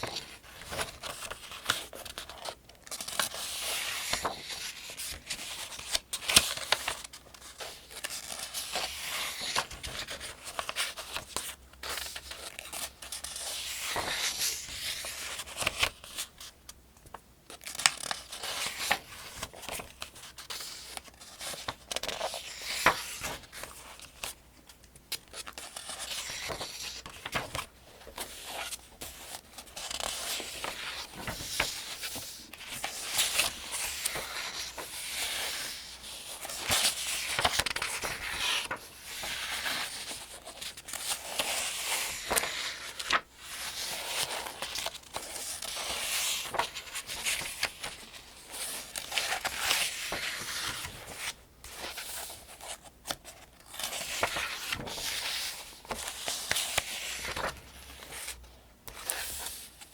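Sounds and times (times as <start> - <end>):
paper pages being turned: 0.0 - 16.5, 17.1 - 59.9.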